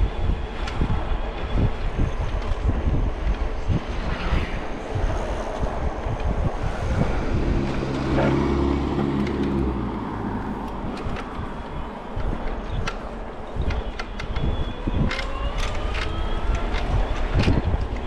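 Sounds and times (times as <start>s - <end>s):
street traffic rumble: 0.0s - 18.0s
vehicle engine humming: 0.0s - 18.0s.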